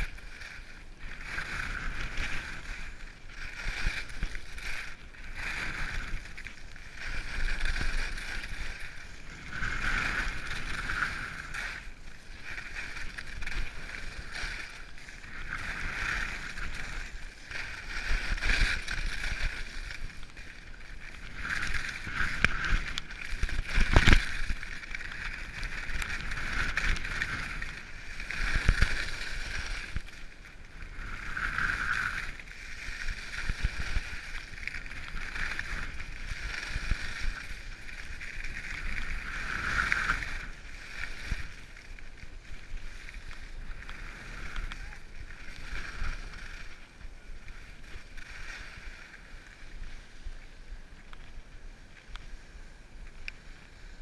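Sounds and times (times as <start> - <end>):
wind rumble on microphone: 0.0 - 52.5
skis scraping on snow: 0.0 - 54.0.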